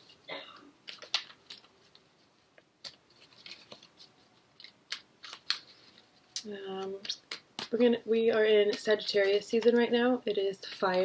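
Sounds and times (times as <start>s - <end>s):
cards being shuffled: 0.0s - 7.9s, 8.6s - 9.8s.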